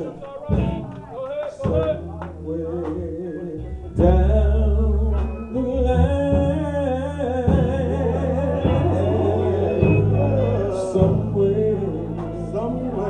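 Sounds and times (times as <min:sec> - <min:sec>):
guitar: 0:00.0 - 0:13.0
person singing: 0:00.0 - 0:13.0
heavy bass line: 0:01.6 - 0:13.0.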